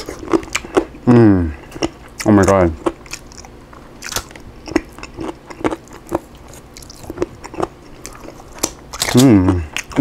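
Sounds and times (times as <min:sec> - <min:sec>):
chewing crispy chicken: 0:00.0 - 0:10.0.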